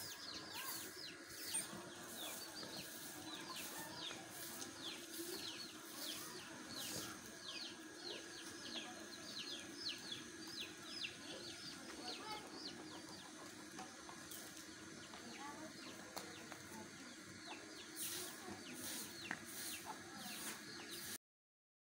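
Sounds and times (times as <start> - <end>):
bursts of hiss: 0.0 - 12.7, 14.3 - 21.2
small birds chirping: 0.0 - 21.2.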